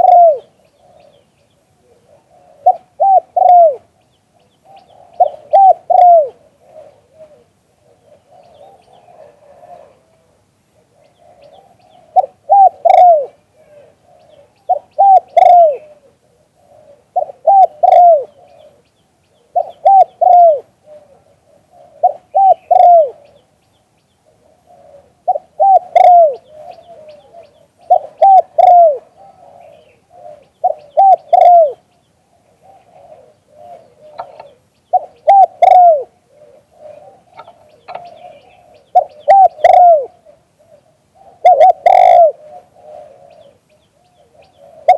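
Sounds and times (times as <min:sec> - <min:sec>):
dove cooing: 0:00.0 - 0:23.6, 0:24.2 - 0:44.9.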